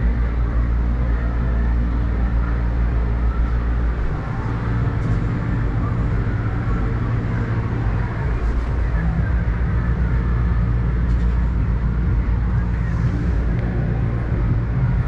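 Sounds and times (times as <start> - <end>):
faint fairground noise: 0.0 - 15.0
steady low rumble: 0.0 - 15.0.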